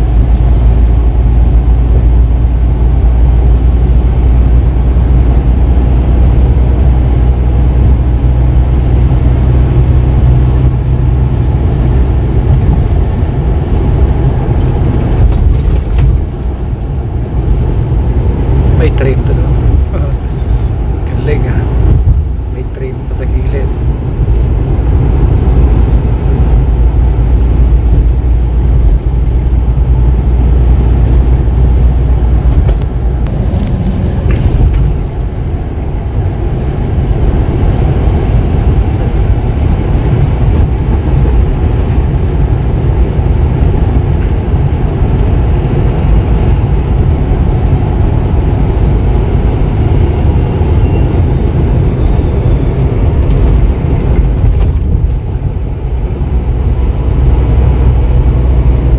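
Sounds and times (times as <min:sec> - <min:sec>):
truck engine and tyres rumbling: 0:00.0 - 0:58.9.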